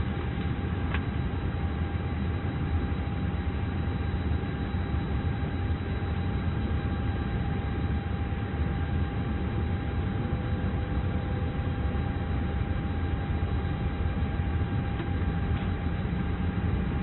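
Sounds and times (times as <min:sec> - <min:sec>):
jet cockpit rumble: 0:00.0 - 0:17.0
thin steady whine: 0:00.0 - 0:17.0.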